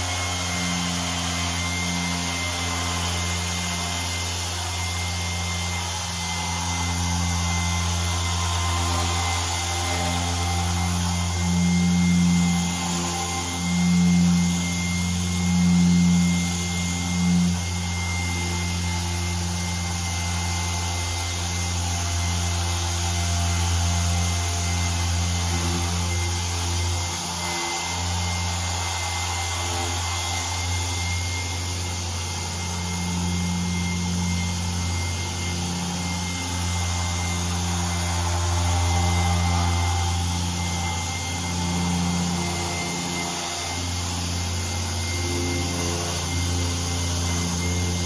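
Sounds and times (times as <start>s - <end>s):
polisher motor humming: 0.0s - 48.0s.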